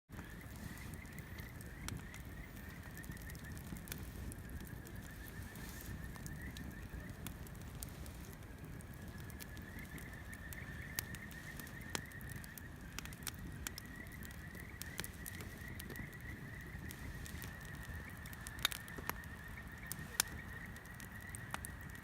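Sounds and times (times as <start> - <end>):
bonfire crackling and popping: 0.1 - 22.0
low rumble of flame: 0.1 - 22.0.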